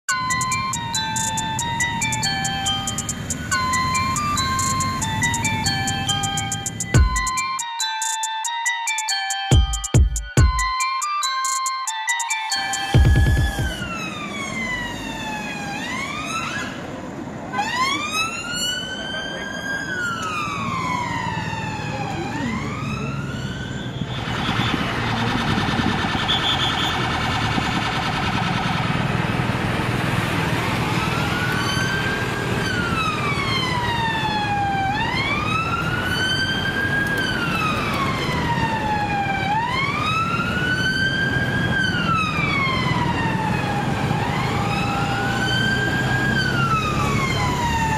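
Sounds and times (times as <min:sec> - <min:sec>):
police sirens wailing: 0:00.0 - 0:47.9.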